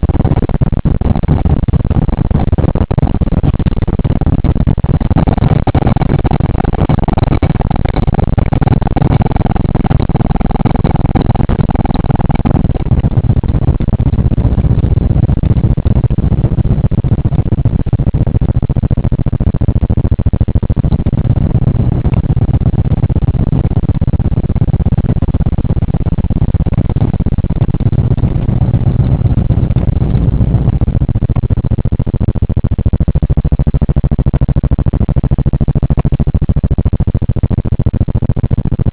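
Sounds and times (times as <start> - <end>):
higher steady hum: 0.0 - 38.9.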